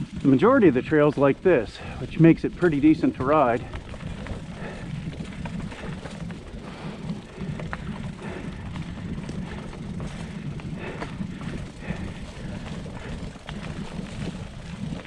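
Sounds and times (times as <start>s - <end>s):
bike clicks and rattles: 0.0s - 15.0s
bike tyres rumbling on trail: 0.0s - 15.0s.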